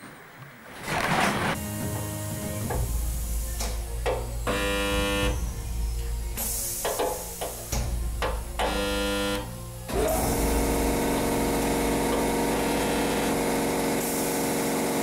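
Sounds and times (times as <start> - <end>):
short pitched music notes: 1.6 - 14.2
sustained multi-tone hum: 1.6 - 15.0.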